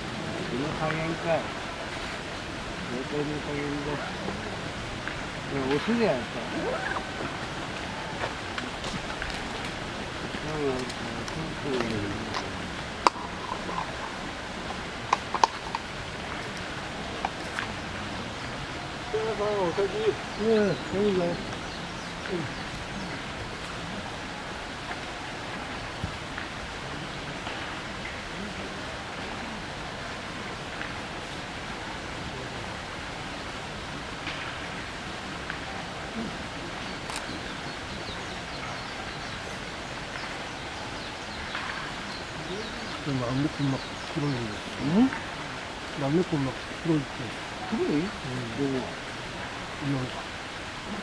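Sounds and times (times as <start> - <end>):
background hiss: 0.0 - 51.0
flowing water rushing: 0.0 - 51.0.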